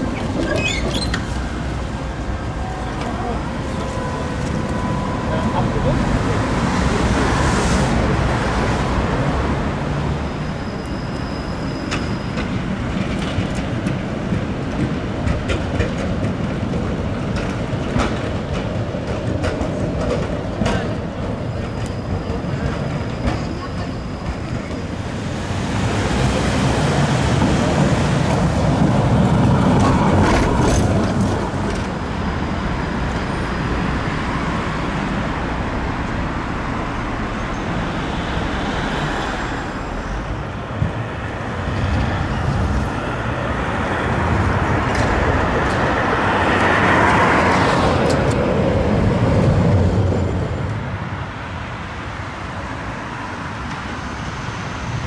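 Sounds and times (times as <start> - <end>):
road traffic passing: 0.0 - 55.0
trams passing: 0.0 - 55.0.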